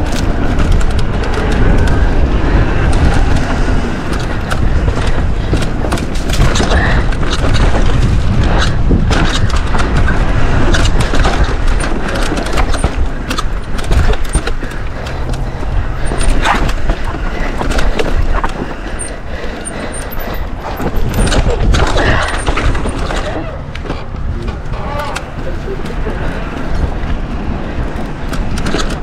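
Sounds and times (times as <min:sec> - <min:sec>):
bike rattling over rocks: 0:00.0 - 0:29.0
wind buffeting microphone: 0:00.0 - 0:29.0.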